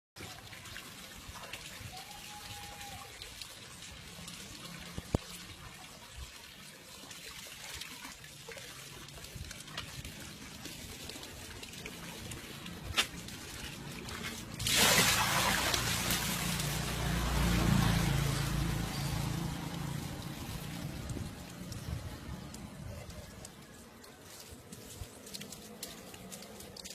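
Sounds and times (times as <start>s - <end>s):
water rushing: 0.2s - 26.9s
water trickling: 0.2s - 26.9s.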